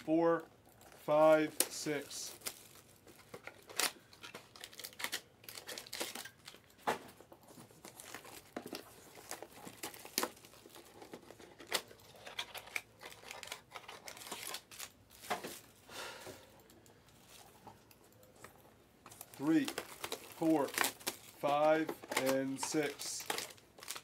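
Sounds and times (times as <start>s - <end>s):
plastic wrapping crinkling and tearing: 0.6s - 6.8s, 7.5s - 15.8s, 19.0s - 24.0s.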